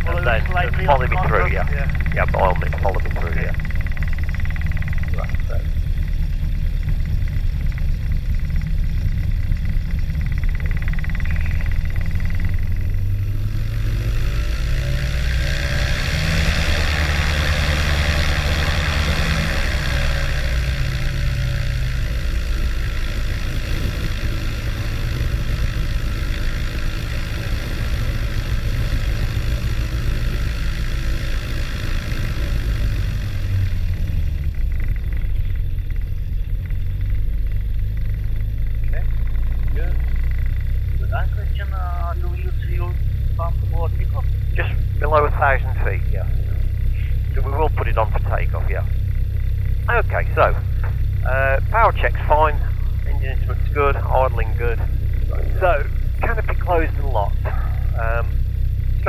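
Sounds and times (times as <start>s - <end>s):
piston engine and propeller: 0.0s - 59.0s.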